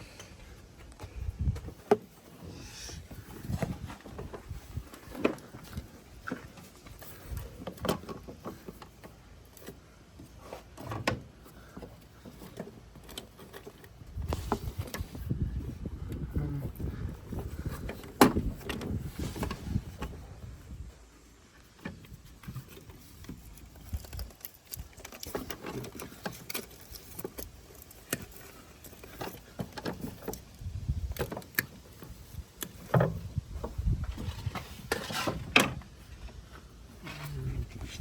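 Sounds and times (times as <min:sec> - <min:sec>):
rummaging through parts: 0:00.0 - 0:38.0.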